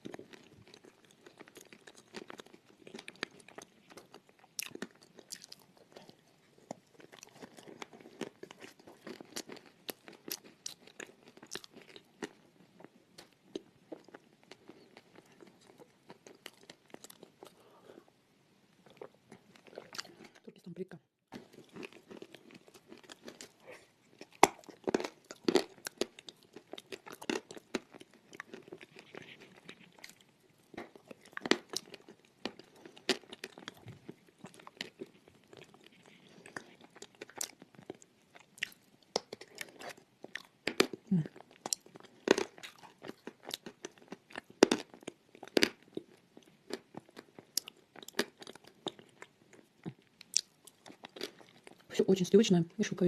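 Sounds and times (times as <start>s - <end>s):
crisp chewing crunches: 0.0s - 17.6s, 18.8s - 20.5s, 21.3s - 51.9s
soft grinding of chewing: 0.0s - 20.6s, 21.3s - 52.0s.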